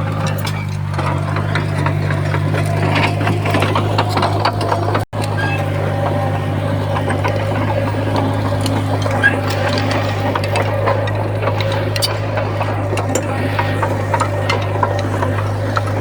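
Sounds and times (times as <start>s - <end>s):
bulldozer diesel engine: 0.0s - 16.0s
tracks clanking and rattling: 0.0s - 16.0s.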